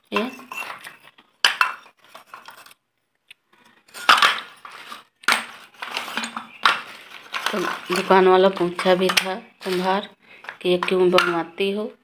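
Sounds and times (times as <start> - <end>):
clay pots clinking: 0.0 - 2.7, 3.5 - 11.7.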